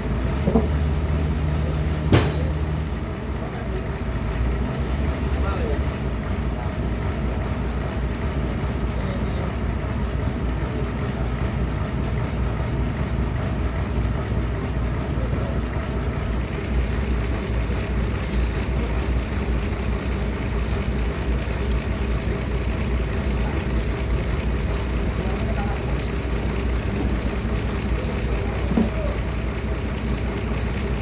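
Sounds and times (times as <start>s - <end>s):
bandsaw machinery droning: 0.0s - 31.0s.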